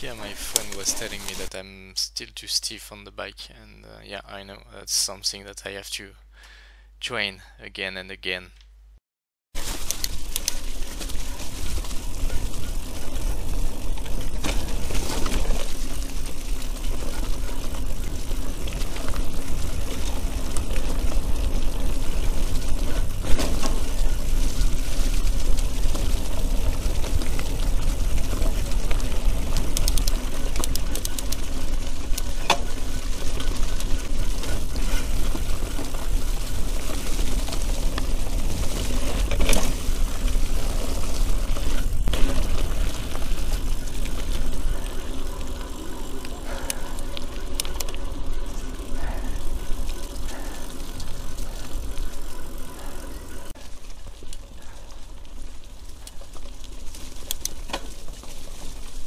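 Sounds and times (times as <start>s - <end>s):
bike rattling: 0.0s - 1.5s, 9.6s - 59.0s
tyres rumbling on trail: 0.0s - 1.6s, 9.6s - 59.0s.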